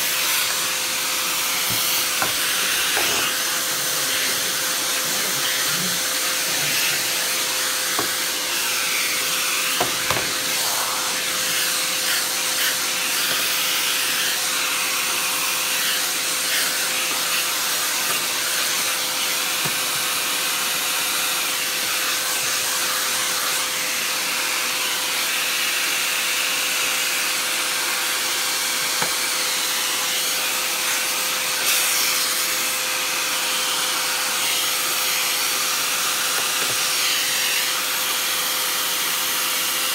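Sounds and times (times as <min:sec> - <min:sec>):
vacuum cleaner humming: 0:00.0 - 0:39.9.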